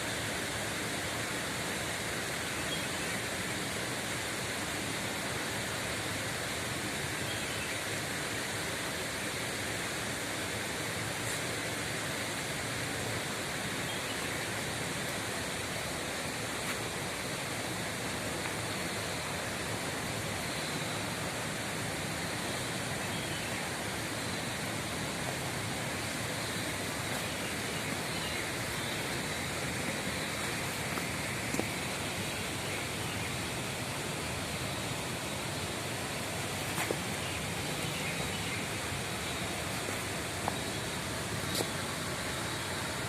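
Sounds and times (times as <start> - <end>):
flowing water rippling: 0.0 - 43.0.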